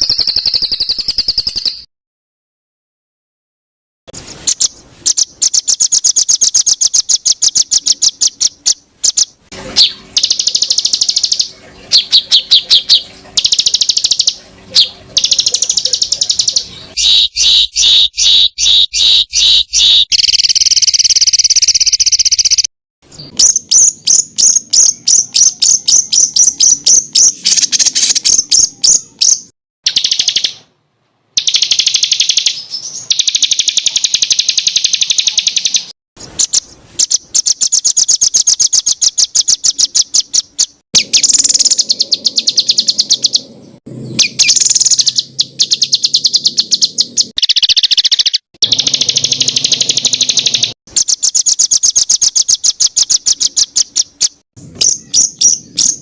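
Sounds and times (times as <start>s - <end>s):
songbird singing rapid trills: 0.0s - 1.9s, 4.3s - 30.6s, 31.4s - 56.0s.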